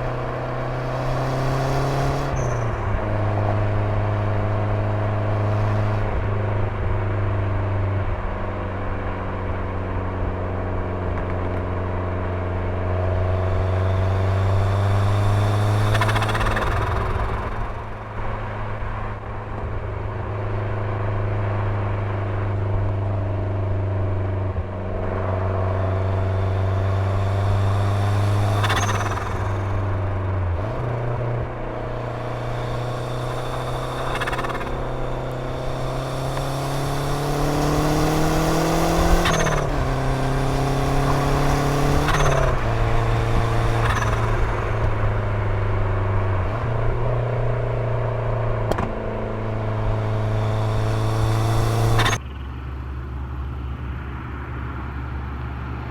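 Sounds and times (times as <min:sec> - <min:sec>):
car engine accelerating: 0:00.0 - 0:52.4.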